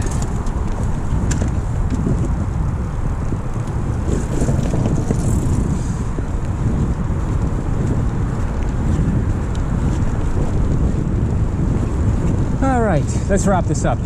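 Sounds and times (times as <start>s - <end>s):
faint ticks from bicycle: 0.0s - 12.4s
wind buffeting microphone: 0.0s - 14.0s.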